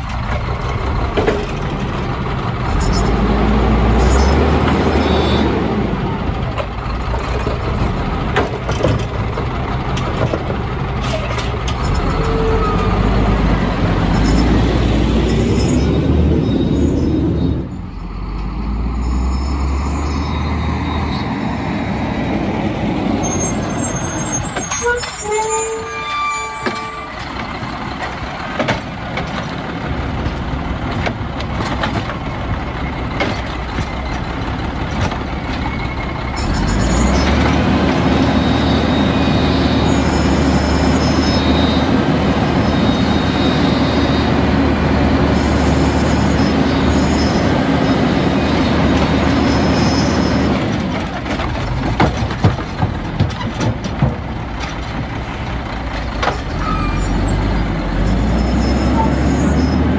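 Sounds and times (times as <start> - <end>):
garbage truck diesel engine: 0.0 - 59.9.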